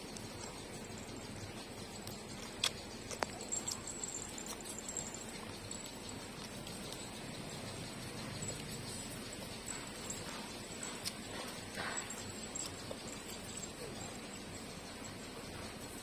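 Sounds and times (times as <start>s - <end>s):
puppies suckling: 0.0s - 16.0s.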